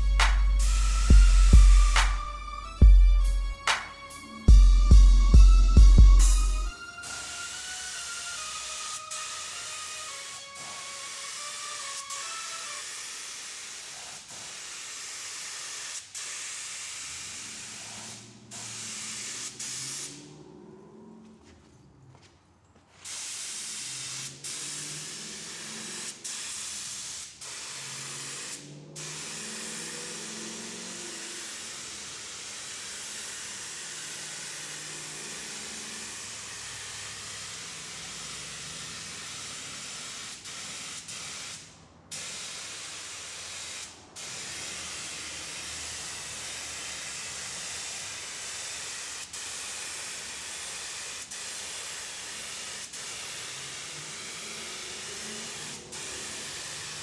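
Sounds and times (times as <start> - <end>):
spray can hissing: 0.0 - 20.4, 22.9 - 57.0.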